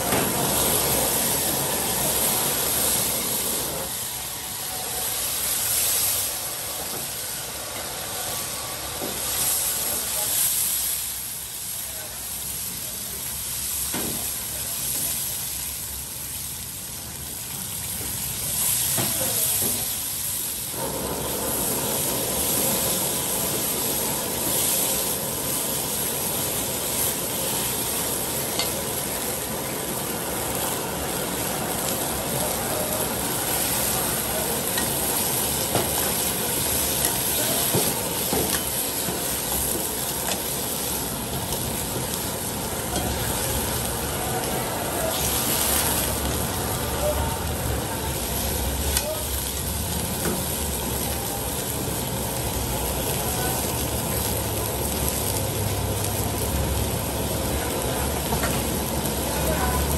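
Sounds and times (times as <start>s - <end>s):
sauce sizzling in a wok: 0.0s - 59.9s.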